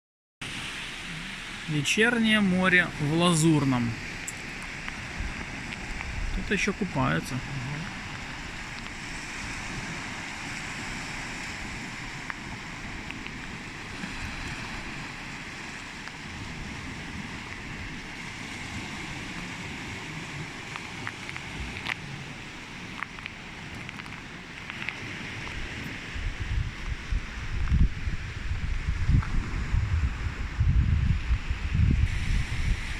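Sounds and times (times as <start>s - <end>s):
waves washing onto shore: 0.4s - 32.9s
wind buffeting microphone: 2.5s - 32.9s.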